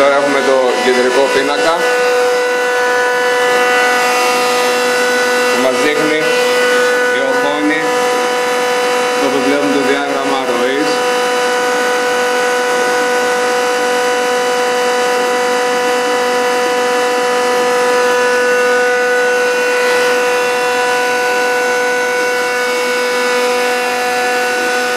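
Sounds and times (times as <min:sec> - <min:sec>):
mid-pitched whine: 0:00.0 - 0:24.9
pumps and motors droning: 0:00.0 - 0:24.9.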